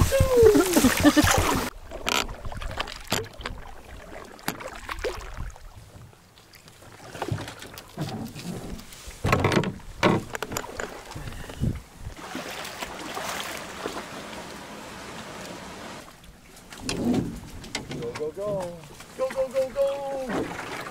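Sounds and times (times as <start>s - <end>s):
paddle strokes through water: 0.0s - 20.9s
water splashes: 0.0s - 20.9s.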